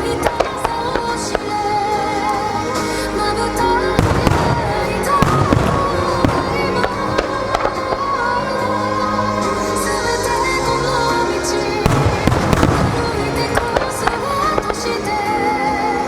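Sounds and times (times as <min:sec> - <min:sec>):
fireworks bursting: 0:00.0 - 0:09.5, 0:11.8 - 0:16.0
show music: 0:00.0 - 0:16.0.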